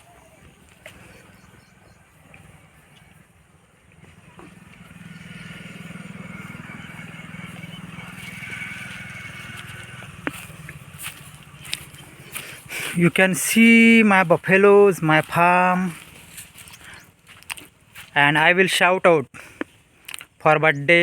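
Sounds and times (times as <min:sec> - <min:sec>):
motor vehicle engine running: 0:00.1 - 0:18.1.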